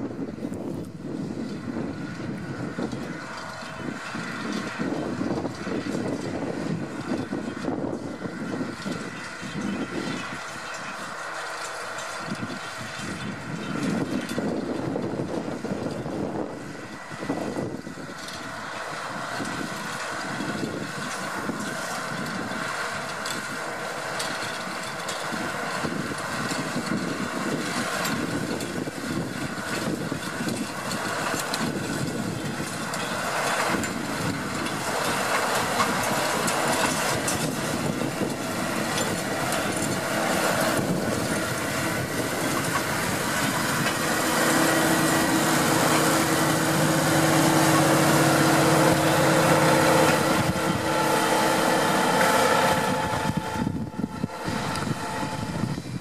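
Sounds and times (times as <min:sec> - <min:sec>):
power harrow working: 0:00.0 - 0:56.0
steady mechanical whine: 0:00.0 - 0:56.0
tractor engine under load: 0:00.0 - 0:56.0.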